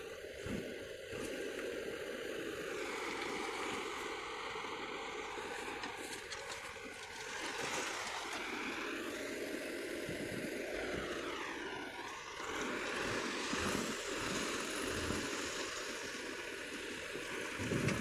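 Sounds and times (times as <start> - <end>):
road construction machinery engine: 0.0 - 18.0.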